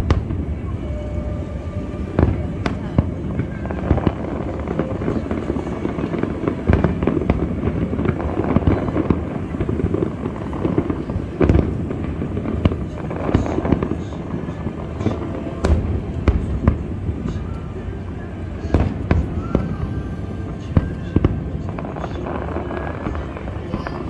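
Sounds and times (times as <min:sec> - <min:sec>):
fireworks bangs and crackling: 0:00.0 - 0:24.0
heavy firework booms: 0:00.0 - 0:24.0.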